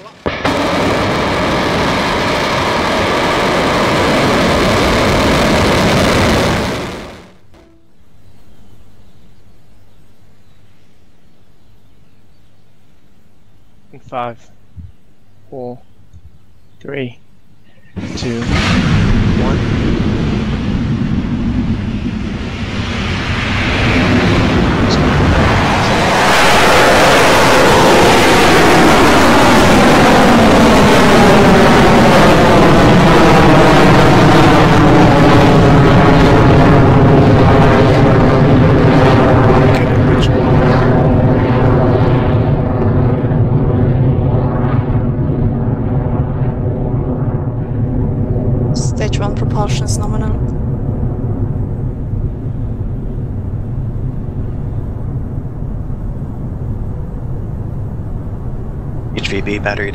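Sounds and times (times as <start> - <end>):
rocket engines roaring: 0.0 - 8.0, 18.0 - 59.9.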